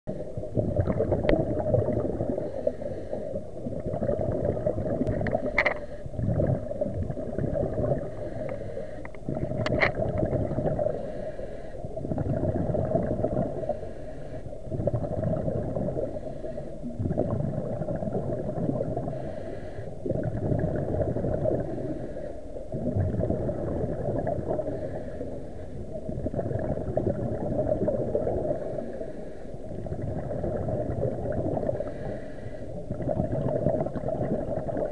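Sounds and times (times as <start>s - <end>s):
muffled underwater water rush: 0.1s - 34.9s.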